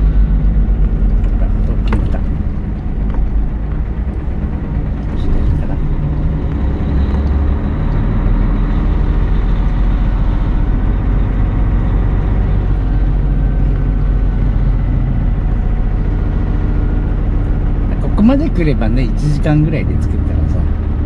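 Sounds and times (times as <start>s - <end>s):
diesel truck engine from inside cab: 0.0s - 21.0s.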